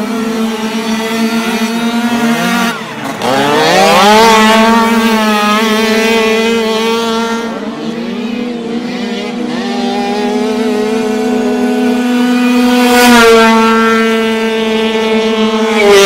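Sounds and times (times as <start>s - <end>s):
dirt bike engine accelerating: 0.0s - 16.0s
dirt bike engine steady high rev: 0.0s - 16.0s.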